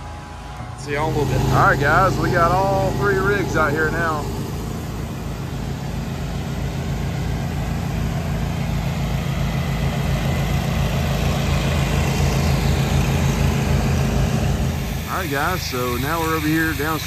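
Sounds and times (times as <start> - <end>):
gas engine running steadily: 0.0 - 17.0.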